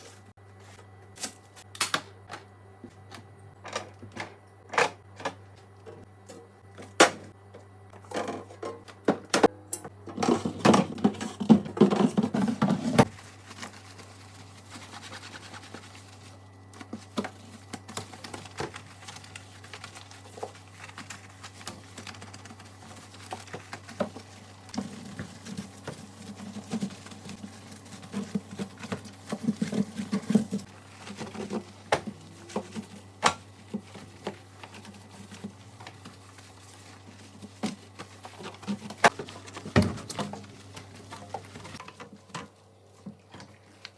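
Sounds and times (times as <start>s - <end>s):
containers and shelves handled: 0.0s - 43.9s.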